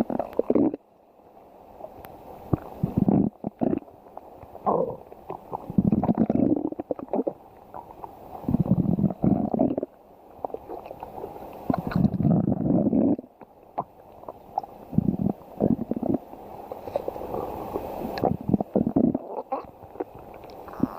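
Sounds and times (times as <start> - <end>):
stomach growling: 0.0 - 0.8, 2.0 - 20.9.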